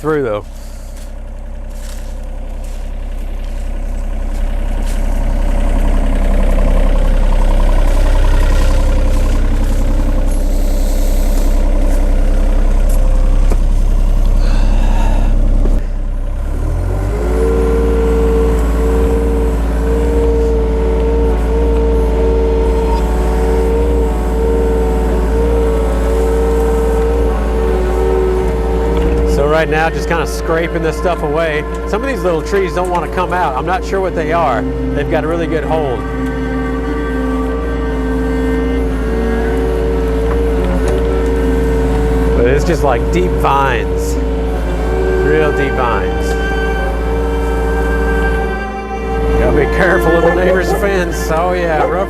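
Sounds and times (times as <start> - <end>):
excavator diesel engine: 0.0 - 52.0
steady whine: 0.0 - 52.0.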